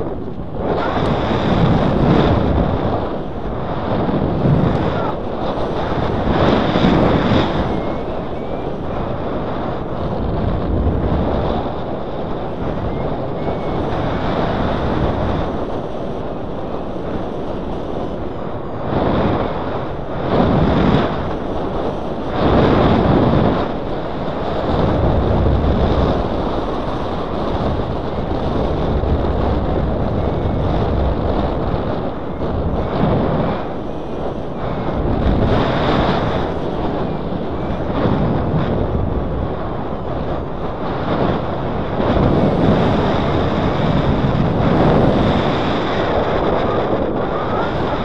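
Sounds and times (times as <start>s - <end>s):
wind rushing over microphone: 0.0s - 48.0s.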